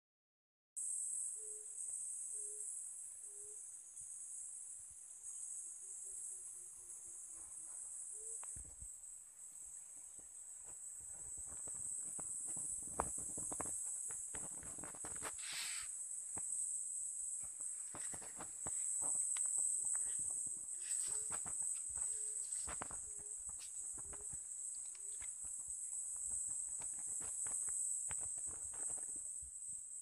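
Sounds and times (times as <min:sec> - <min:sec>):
crickets chirping: 0:00.8 - 0:30.0.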